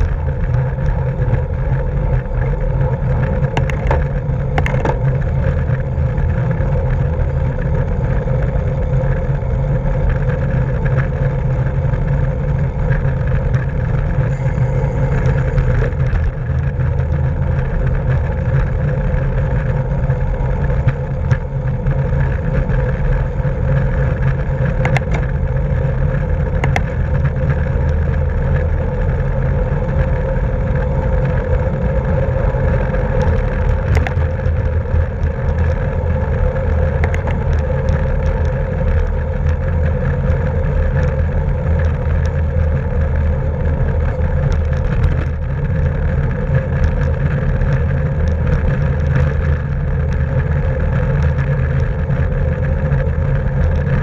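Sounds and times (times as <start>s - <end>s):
steady hum: 0.0s - 54.0s
wind rumble on microphone: 0.0s - 54.0s.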